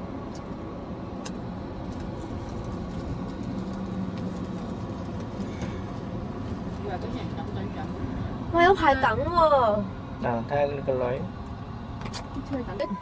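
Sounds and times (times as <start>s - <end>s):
car engine and tyre hum: 0.0s - 13.0s.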